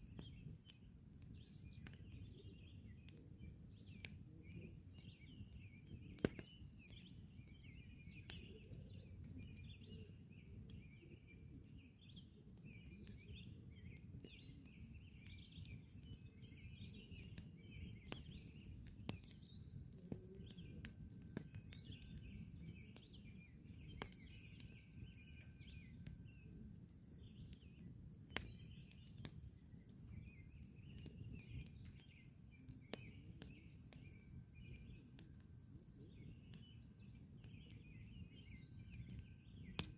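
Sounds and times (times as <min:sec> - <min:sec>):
birds chirping: 0:00.0 - 0:39.9
campfire crackling and popping: 0:00.0 - 0:39.9.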